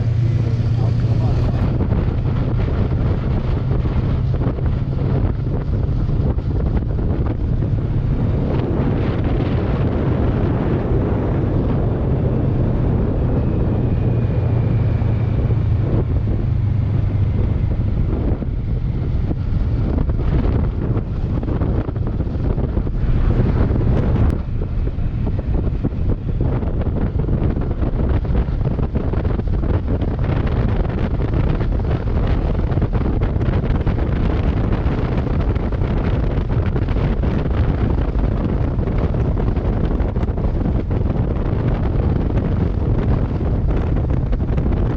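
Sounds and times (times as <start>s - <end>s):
motorcycle engine running: 0.0s - 44.9s
wind buffeting microphone: 0.0s - 44.9s.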